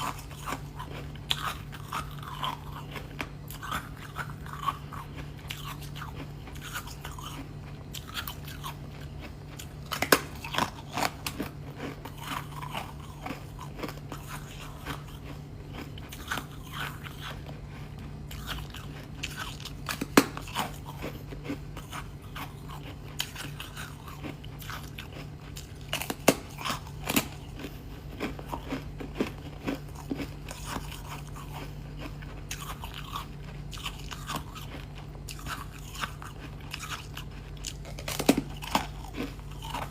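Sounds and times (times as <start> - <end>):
faint low hum: 0.0 - 39.9
ice crunching while chewing: 0.0 - 39.9.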